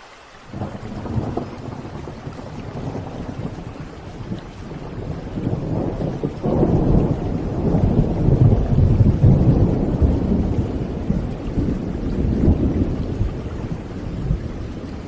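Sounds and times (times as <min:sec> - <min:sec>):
steady rain: 0:00.0 - 0:15.0
rolling thunder: 0:00.5 - 0:15.0.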